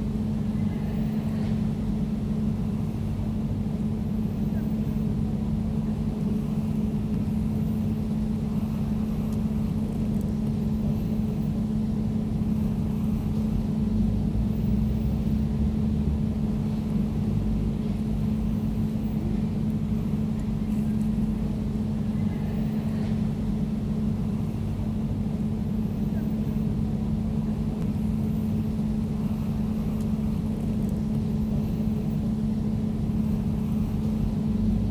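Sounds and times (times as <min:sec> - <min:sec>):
air conditioner humming: 0:00.0 - 0:34.9.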